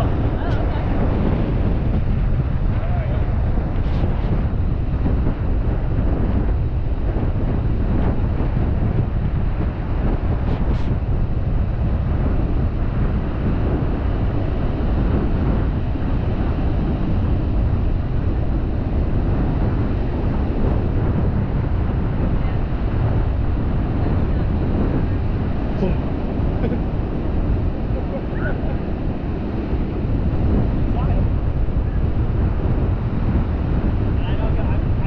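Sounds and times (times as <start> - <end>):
ocean surf breaking: 0.0 - 35.0
wind buffeting microphone: 0.0 - 35.0.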